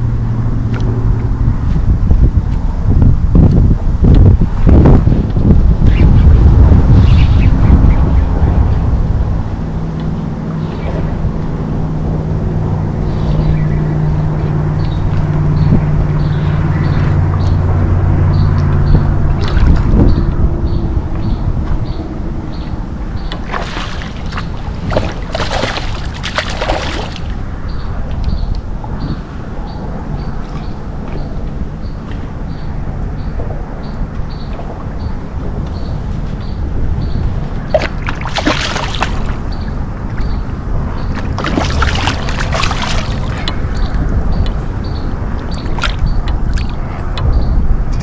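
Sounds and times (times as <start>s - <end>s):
steady low rumble: 0.0s - 48.0s
water splashing around kayak: 8.5s - 48.0s.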